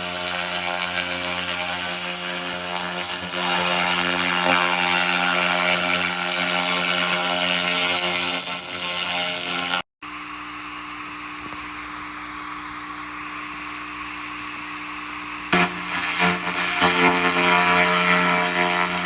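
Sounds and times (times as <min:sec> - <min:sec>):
laser rust remover humming: 0:00.0 - 0:19.0.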